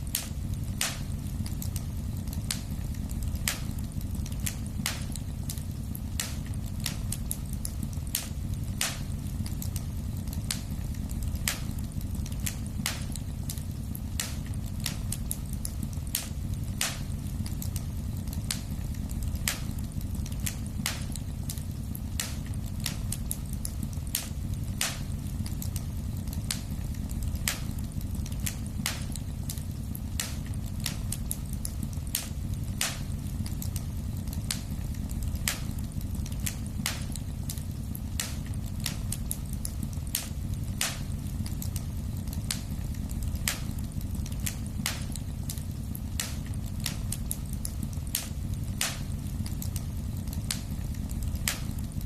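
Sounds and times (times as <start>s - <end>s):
fire crackling: 0.0s - 52.0s
fire rumbling: 0.0s - 52.0s
loud fire pops: 0.0s - 52.0s.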